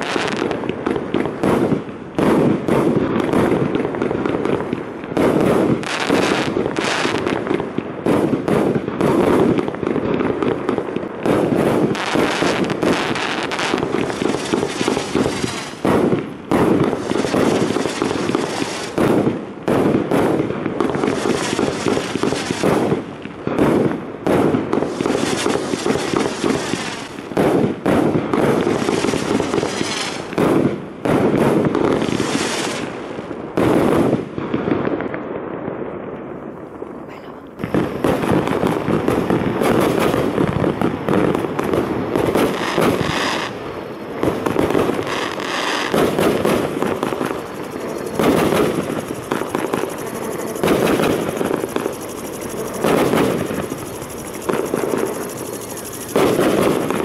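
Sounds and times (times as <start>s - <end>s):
firework cake firing: 0.0s - 57.0s.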